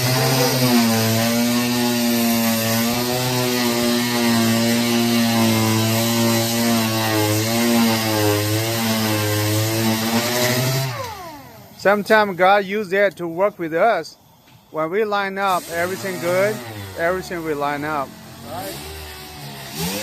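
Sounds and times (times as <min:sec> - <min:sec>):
power tool motor running: 0:00.0 - 0:11.8, 0:15.5 - 0:20.0.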